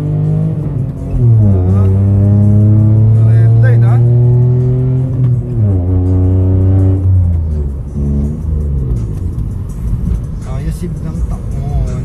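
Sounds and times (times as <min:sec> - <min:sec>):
bass-heavy music on car audio: 0:00.0 - 0:12.0.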